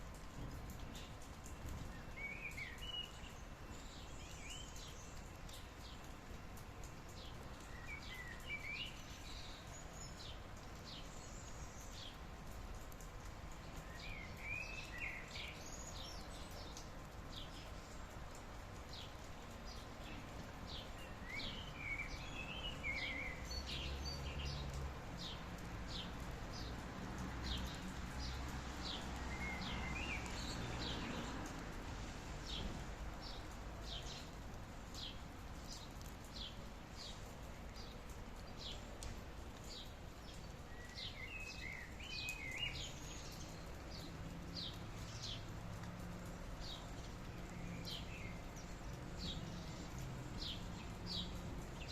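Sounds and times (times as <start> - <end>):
rain hissing: 0.0 - 51.9.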